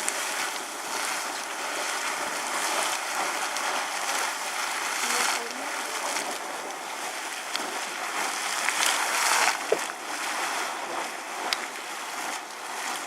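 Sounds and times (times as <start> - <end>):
geyser water splashing and surging: 0.0 - 13.0.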